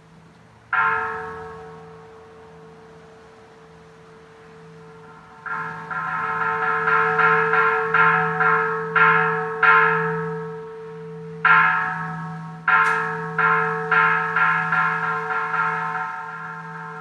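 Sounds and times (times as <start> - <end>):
bells ringing: 0.7 - 17.0.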